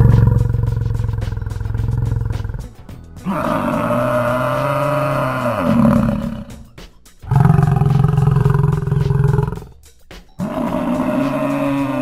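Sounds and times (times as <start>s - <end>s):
buffalo bellowing: 0.0s - 9.7s, 10.4s - 12.0s.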